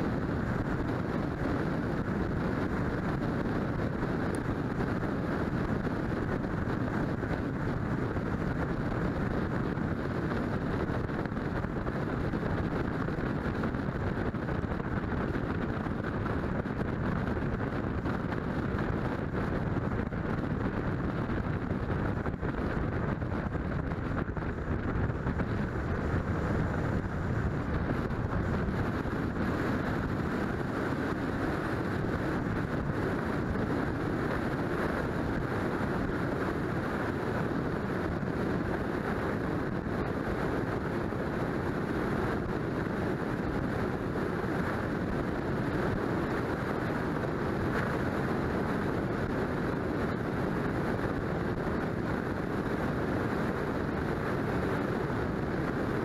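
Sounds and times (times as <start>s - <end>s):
car road noise: 0.0s - 56.0s
wind rushing over microphone: 0.0s - 56.0s.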